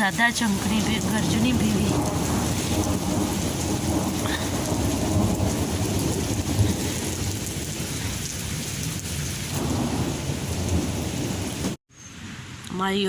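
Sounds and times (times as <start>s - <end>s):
heavy rain pouring: 0.0s - 11.8s
low rumble of thunder: 0.3s - 11.8s.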